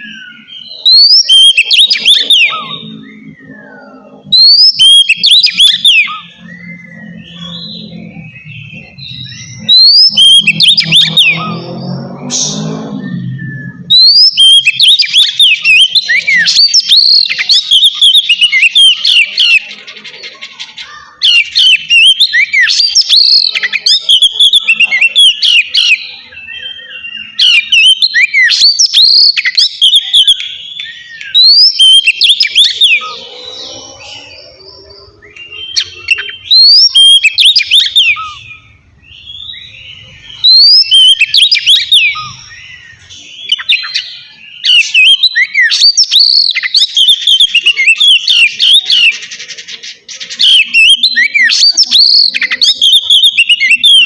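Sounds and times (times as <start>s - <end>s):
bird singing whistled notes: 0.0s - 19.7s, 20.8s - 49.5s, 50.1s - 54.0s.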